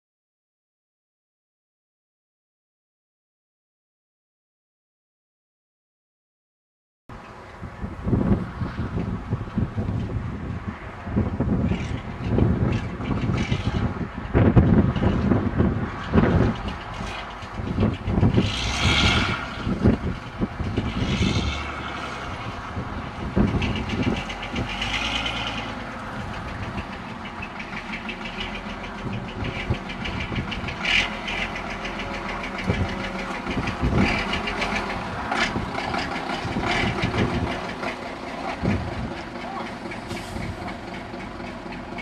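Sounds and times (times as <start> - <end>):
bus diesel engine running: 7.1 - 42.0.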